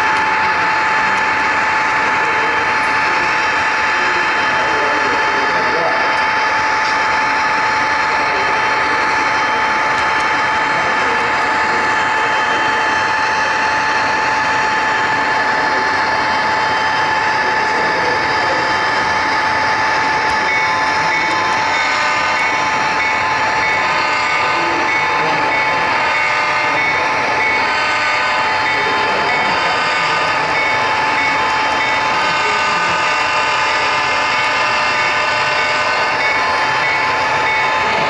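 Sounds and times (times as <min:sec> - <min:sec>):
model train rolling on track: 0:00.0 - 0:38.0
pulsing high tone: 0:00.1 - 0:38.0.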